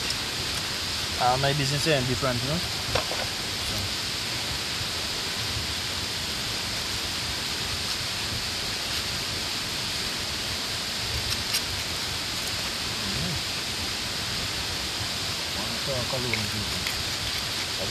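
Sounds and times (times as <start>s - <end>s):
rushing water of waterfall: 0.0s - 17.9s.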